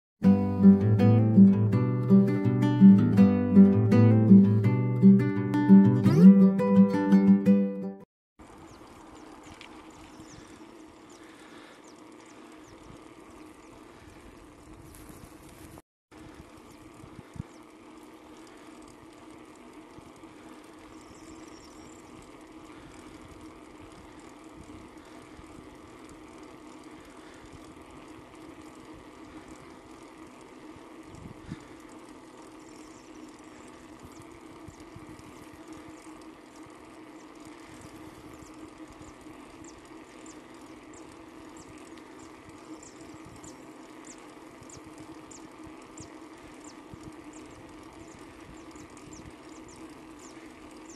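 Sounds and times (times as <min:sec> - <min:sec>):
bike tyres humming on asphalt: 0:00.3 - 0:06.8, 0:08.4 - 0:50.9.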